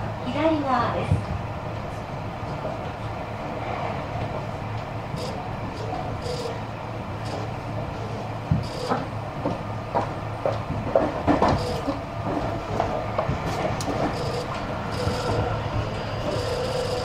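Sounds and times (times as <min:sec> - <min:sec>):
knocks and rattles of train: 0:00.0 - 0:17.0
train low rumble and hum: 0:00.0 - 0:17.0.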